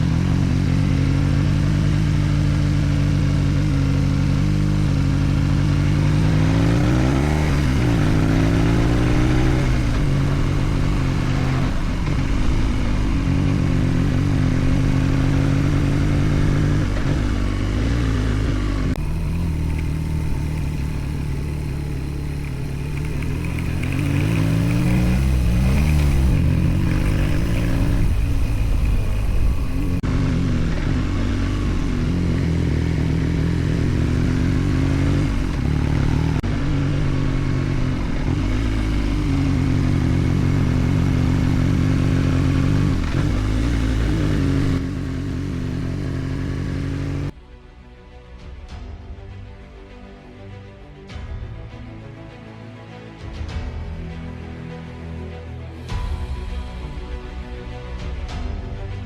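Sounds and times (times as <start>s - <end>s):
motorcycle engine revving: 0.0s - 47.4s.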